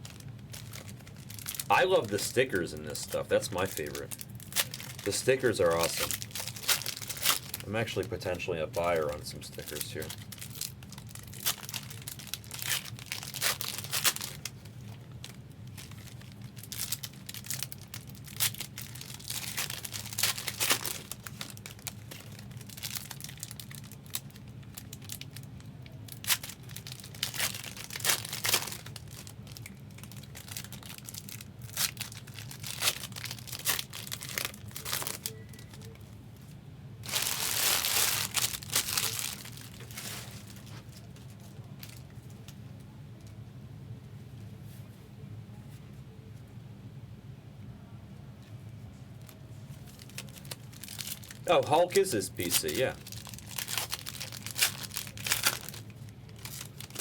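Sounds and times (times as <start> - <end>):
foil wrappers tearing and crinkling: 0.0 - 36.0, 37.0 - 42.1, 49.2 - 57.0.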